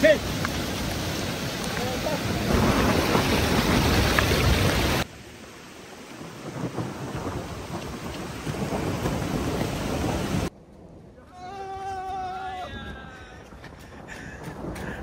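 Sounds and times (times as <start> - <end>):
hail and rain falling: 0.0 - 15.0.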